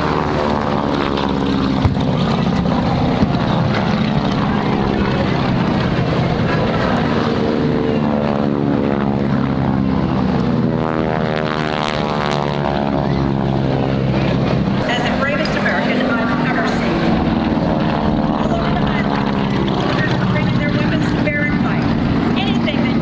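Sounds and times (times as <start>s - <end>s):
propeller plane engines droning: 0.0s - 23.0s.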